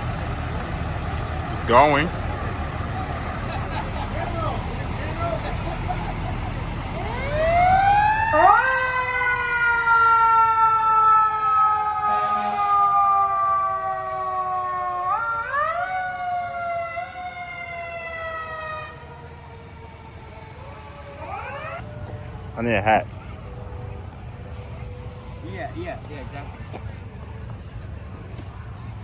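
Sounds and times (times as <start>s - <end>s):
emergency vehicle siren wailing: 0.0s - 29.0s.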